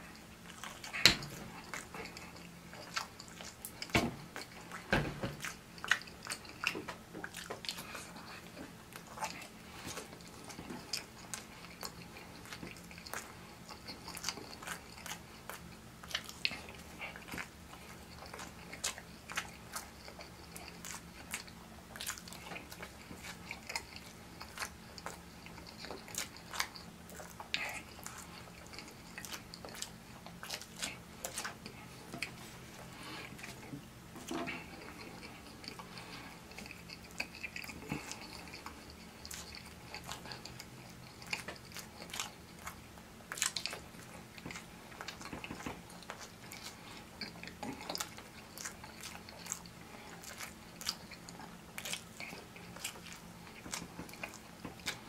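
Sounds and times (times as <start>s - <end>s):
man chewing food: 0.0s - 55.0s.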